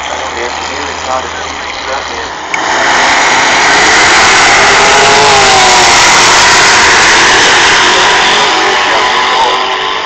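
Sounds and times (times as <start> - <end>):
drag racing car engine: 0.0 - 10.0.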